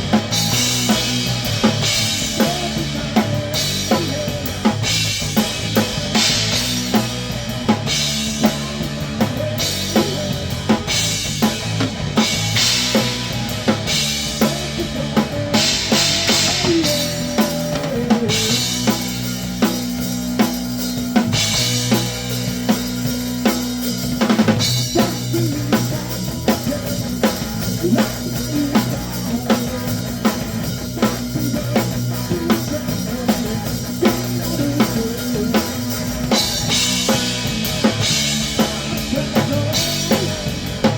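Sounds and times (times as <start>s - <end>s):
grunge rock band playing: 0.0s - 40.9s.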